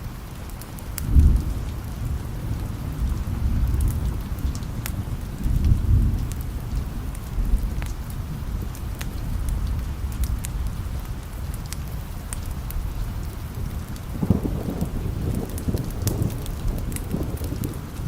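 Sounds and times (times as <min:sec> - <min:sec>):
steady rain: 0:00.0 - 0:18.0
distant thunder rumble: 0:01.0 - 0:11.0, 0:12.8 - 0:18.0
sharp crackles: 0:03.2 - 0:18.0.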